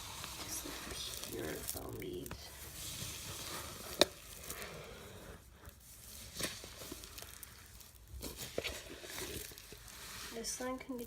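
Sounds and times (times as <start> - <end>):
slime crackling and popping: 0.0 - 11.0.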